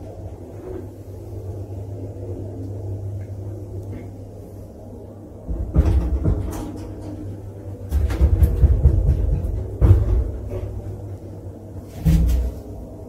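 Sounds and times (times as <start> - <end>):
elevator humming: 0.0 - 13.0
elevator rumbling and clunking: 0.0 - 13.0.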